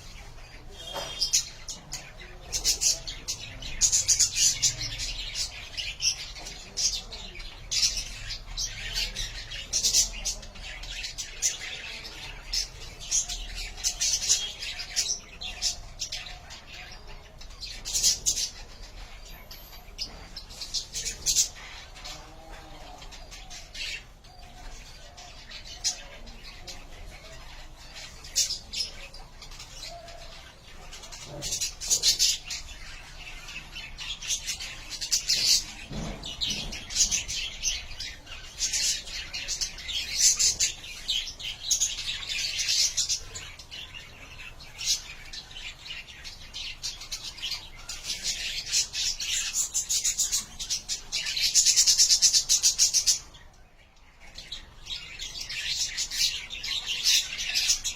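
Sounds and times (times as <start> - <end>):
budgerigars chattering and chirping: 0.0 - 57.9.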